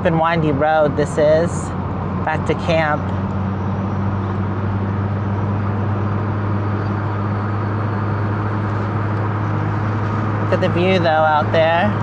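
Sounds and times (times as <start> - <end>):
constant low hum: 0.0 - 12.0
tyre road noise: 0.0 - 12.0
vehicle engine: 0.0 - 12.0.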